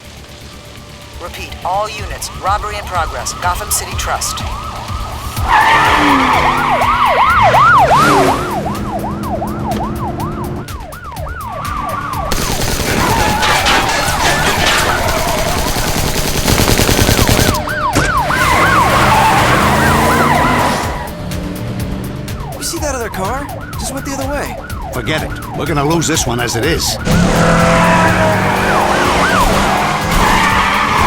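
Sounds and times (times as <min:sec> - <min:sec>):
car engines racing: 0:00.0 - 0:31.0
road noise: 0:00.0 - 0:31.0
police sirens yelping: 0:01.2 - 0:31.0.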